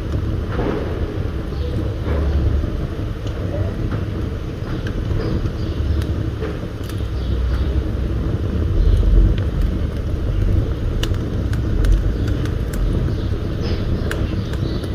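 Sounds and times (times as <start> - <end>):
fire crackling and popping: 0.0 - 14.9
wood fire rumbling: 0.0 - 14.9.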